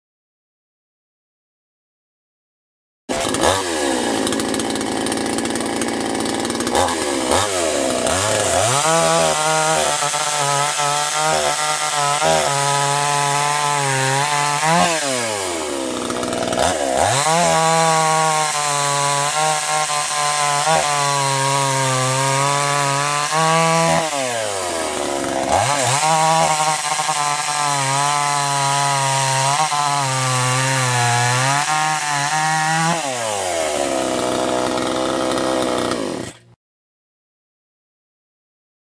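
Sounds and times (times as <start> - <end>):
chainsaw engine revving: 3.1 - 36.6.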